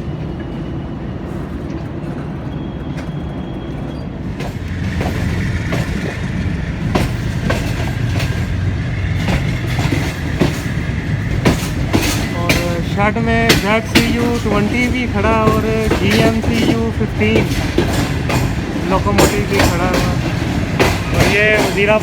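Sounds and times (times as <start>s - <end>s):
train rumbling: 0.0s - 22.0s
wheels clacking over rail joints: 1.7s - 22.0s.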